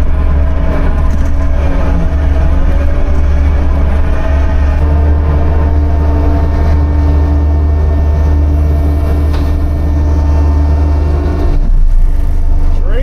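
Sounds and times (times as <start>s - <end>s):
low engine drone: 0.0s - 13.0s
steady hydraulic whine: 0.0s - 13.0s.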